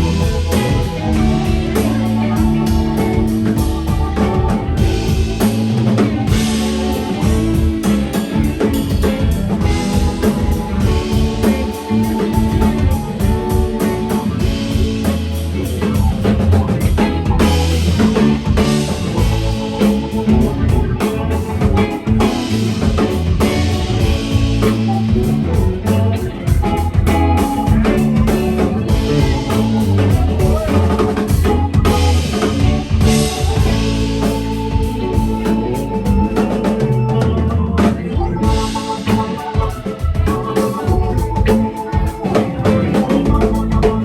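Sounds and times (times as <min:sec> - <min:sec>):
bass line: 0:00.0 - 0:44.0
drum kit steady beat: 0:00.0 - 0:44.0
guitar: 0:00.0 - 0:44.0.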